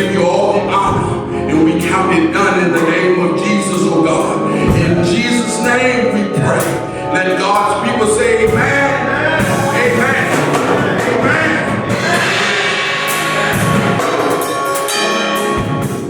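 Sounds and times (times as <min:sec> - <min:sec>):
church singing: 0:00.0 - 0:16.0
instrumental accompaniment: 0:00.0 - 0:16.0.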